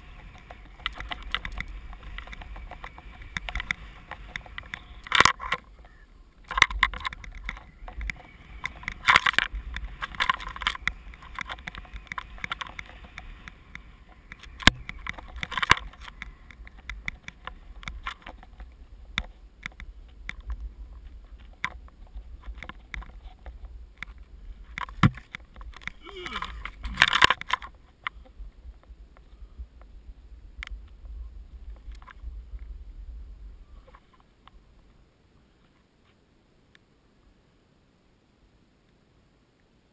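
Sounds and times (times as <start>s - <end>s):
low wind rumble on microphone: 0.0s - 35.2s.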